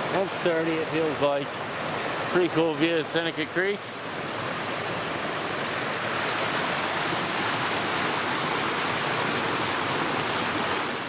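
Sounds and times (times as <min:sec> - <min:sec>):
creek rushing: 0:00.0 - 0:11.0.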